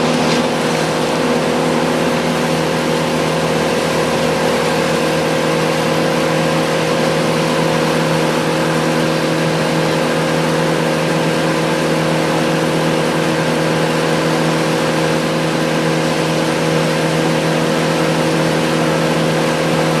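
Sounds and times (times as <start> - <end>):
heavy equipment engine humming: 0.0 - 20.0.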